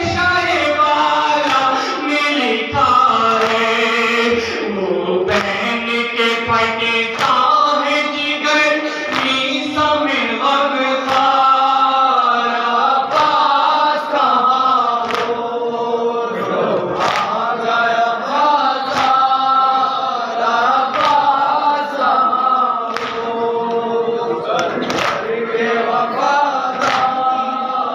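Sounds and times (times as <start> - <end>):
men chanting a lament: 0.0 - 27.9.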